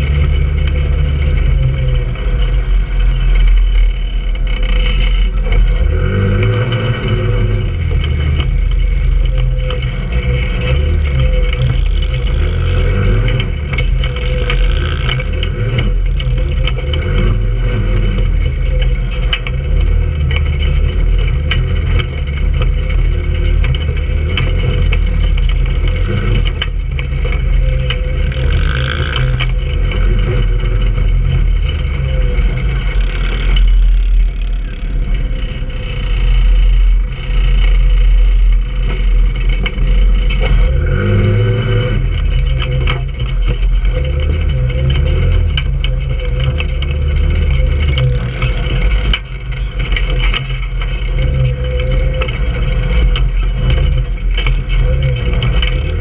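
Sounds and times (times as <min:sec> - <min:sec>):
go-kart engine running: 0:00.0 - 0:56.0
knocks and rattles: 0:00.0 - 0:56.0.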